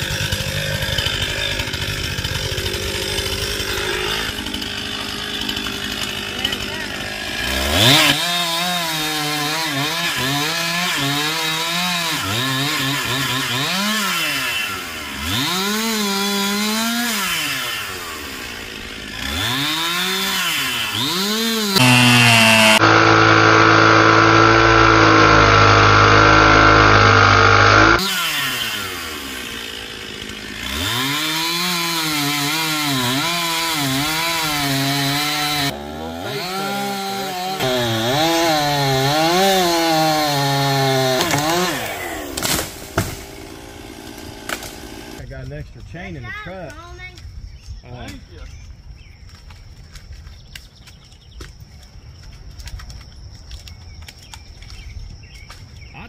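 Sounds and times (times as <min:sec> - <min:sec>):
chainsaw revving: 0:00.0 - 0:45.2.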